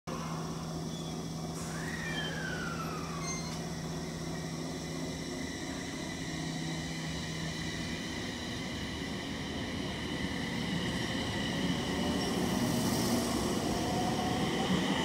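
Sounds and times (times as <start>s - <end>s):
electric train motor whine: 0.1s - 15.0s.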